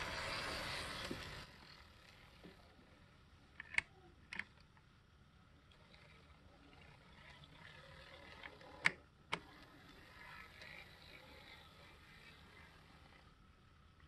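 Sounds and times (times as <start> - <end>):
model train whirring: 0.0 - 14.0.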